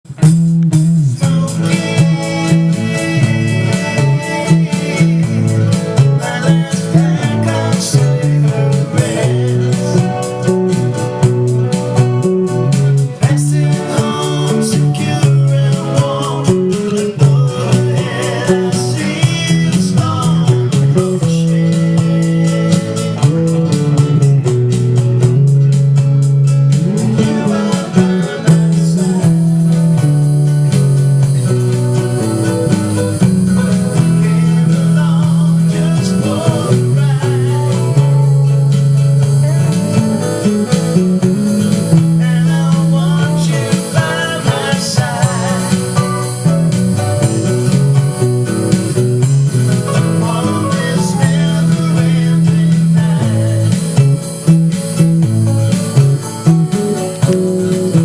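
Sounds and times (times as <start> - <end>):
bass guitar playing: 0.0 - 58.0
recorded band track: 0.0 - 58.0.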